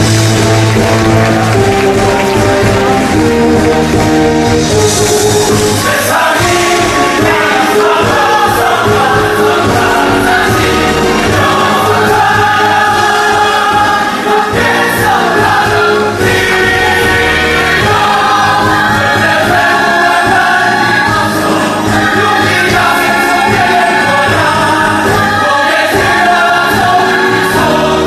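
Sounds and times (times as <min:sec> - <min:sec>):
orchestral accompaniment: 0:00.0 - 0:28.0
cast and chorus singing: 0:04.8 - 0:28.0.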